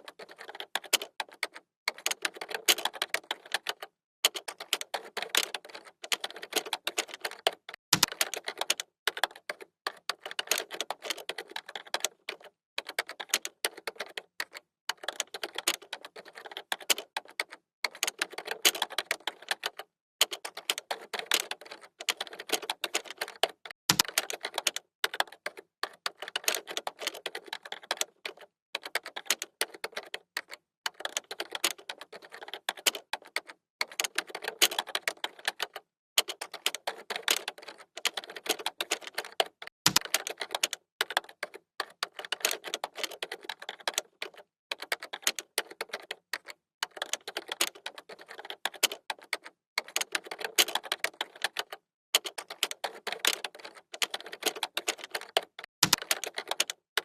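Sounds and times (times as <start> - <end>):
computer keyboard typing: 0.0 - 57.0.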